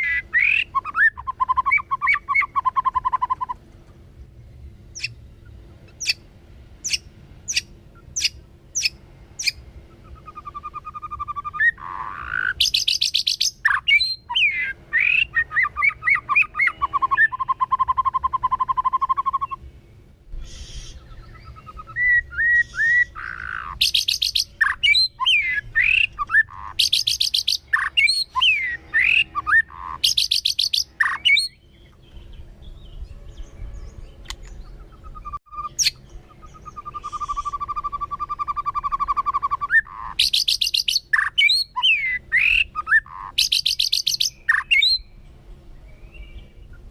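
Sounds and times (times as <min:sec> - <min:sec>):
bird song with whistles and trills: 0:00.0 - 0:03.6, 0:04.9 - 0:06.2, 0:06.8 - 0:19.7, 0:20.4 - 0:46.9
bird ticking calls: 0:00.0 - 0:04.0, 0:04.9 - 0:06.2, 0:06.8 - 0:19.6, 0:20.4 - 0:32.2, 0:34.2 - 0:45.0.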